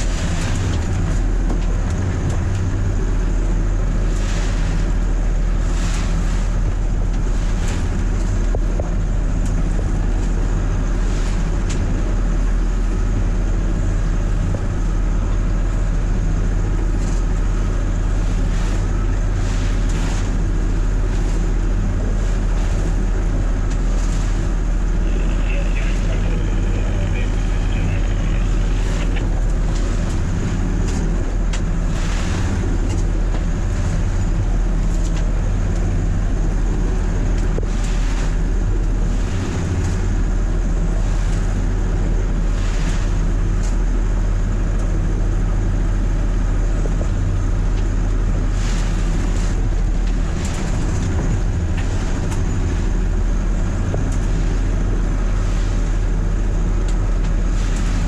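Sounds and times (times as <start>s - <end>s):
marine diesel engine running: 0.0s - 58.0s.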